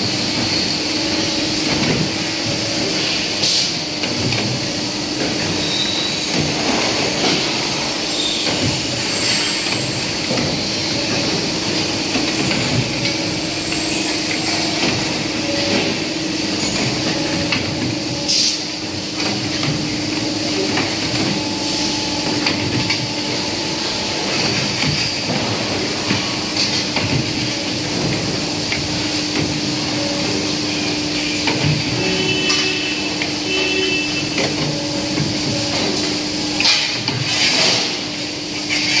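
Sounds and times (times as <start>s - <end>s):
machine humming: 0.0s - 38.8s.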